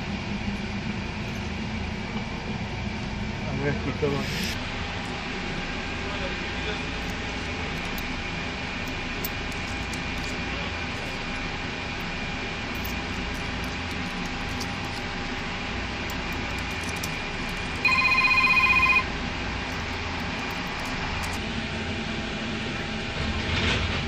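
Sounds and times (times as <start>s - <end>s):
diesel railcar running noise: 0.0s - 24.0s.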